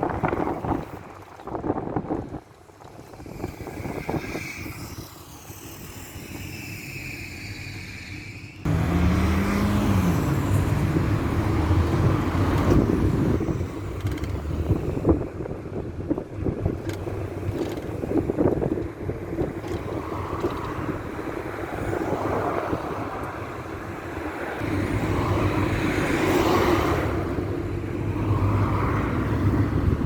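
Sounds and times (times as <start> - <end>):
minibus engine drone: 0.0 - 30.0
road noise: 0.0 - 30.0.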